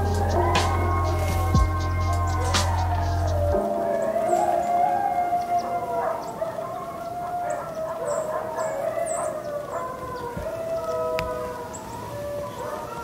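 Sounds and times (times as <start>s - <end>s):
coyotes howling: 0.0s - 13.0s.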